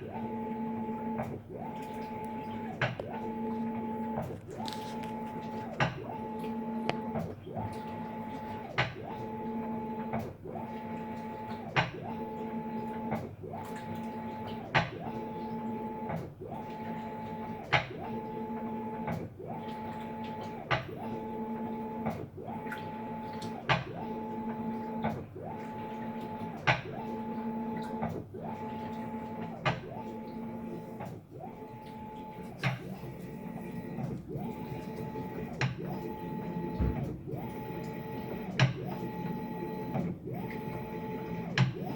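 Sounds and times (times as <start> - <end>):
washing machine motor humming: 0.0 - 41.9.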